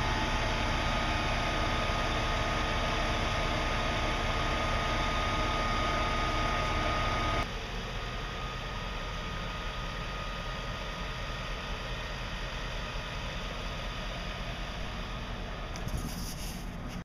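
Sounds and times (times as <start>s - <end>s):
fire truck engine idling: 0.0s - 17.0s.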